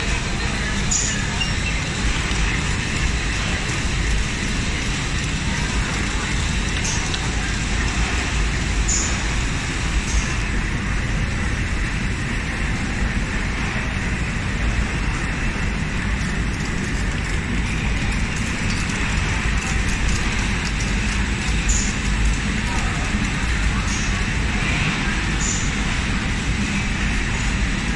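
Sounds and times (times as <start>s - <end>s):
packaging line machinery running: 0.0s - 27.9s.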